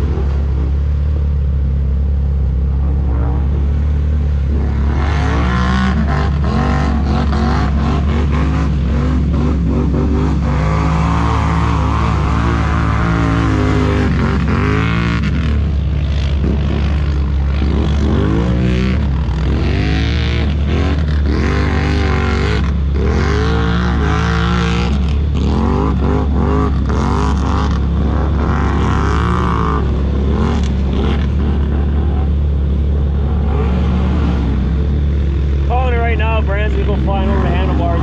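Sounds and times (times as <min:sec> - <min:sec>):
atv engine revving: 0:00.0 - 0:38.0
low drone: 0:00.0 - 0:38.0.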